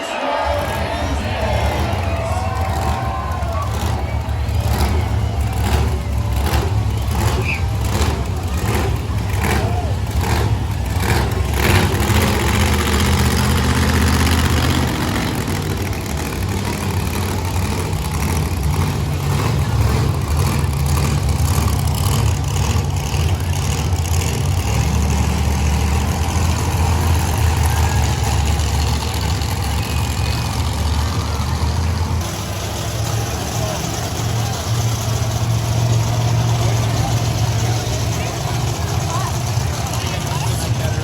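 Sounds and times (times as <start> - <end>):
monster truck engines idling: 0.0 - 41.0.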